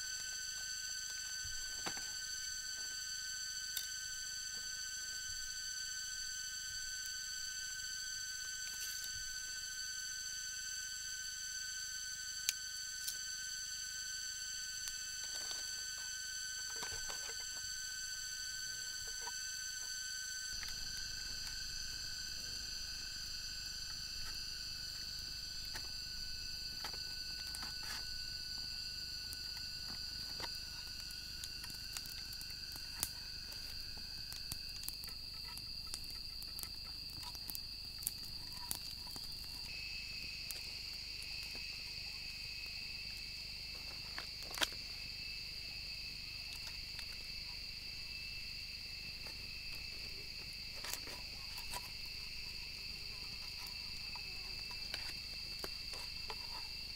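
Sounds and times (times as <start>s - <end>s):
forest insects chorus: 0.0s - 56.9s.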